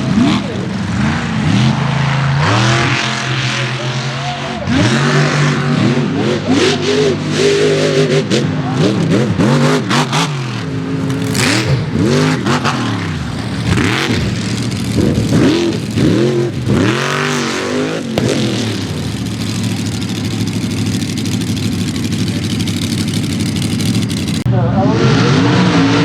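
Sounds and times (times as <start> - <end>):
mud truck engine revving: 0.0 - 26.0.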